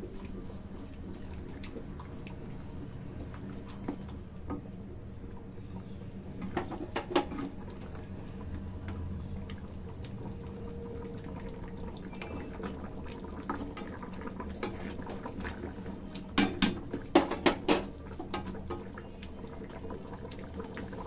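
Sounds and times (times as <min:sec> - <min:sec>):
gravy simmering in a wok: 0:00.0 - 0:21.0.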